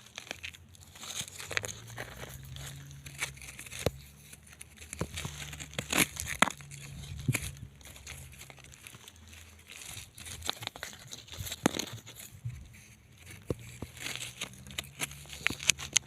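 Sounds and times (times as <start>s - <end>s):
stones and debris crunching: 0.0s - 16.0s.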